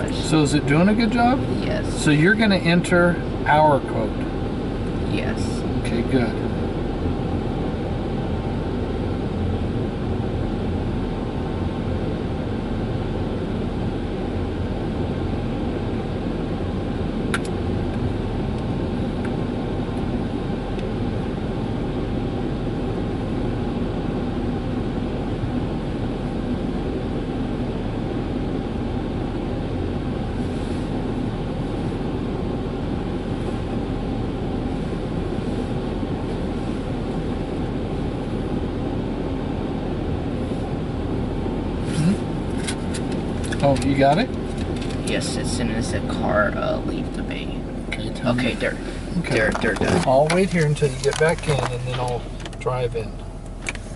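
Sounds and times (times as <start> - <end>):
car wash dryer blowers rushing: 0.0 - 53.9.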